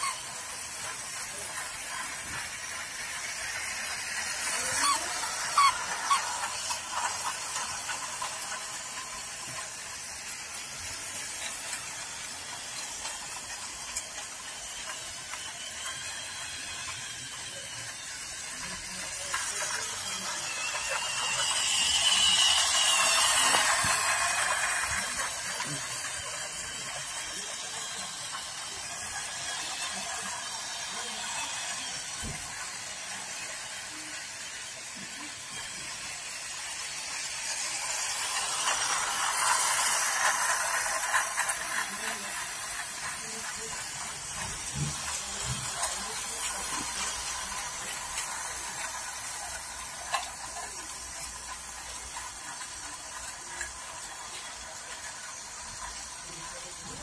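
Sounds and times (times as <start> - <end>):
toy train motor whine: 0.0 - 57.0
toy train wheel rattle: 0.0 - 57.0.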